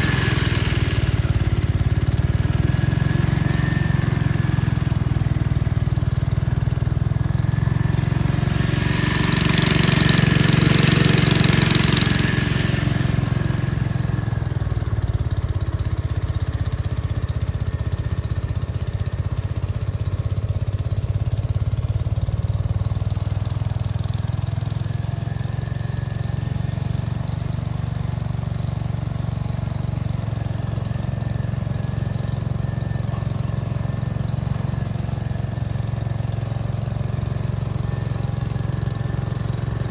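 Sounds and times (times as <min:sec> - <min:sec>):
snowblower rushing hiss: 0:00.0 - 0:15.8, 0:23.0 - 0:39.9
tractor engine running: 0:00.0 - 0:39.9.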